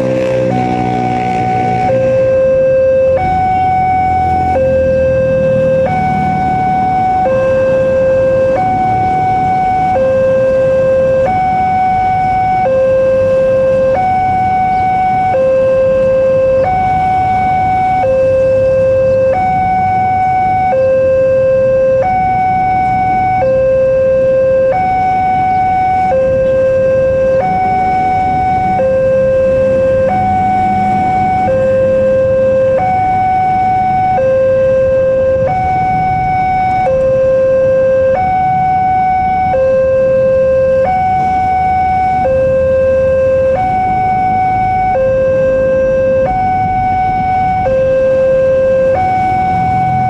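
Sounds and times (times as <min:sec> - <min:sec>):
level crossing two-tone alarm: 0:00.0 - 0:50.0.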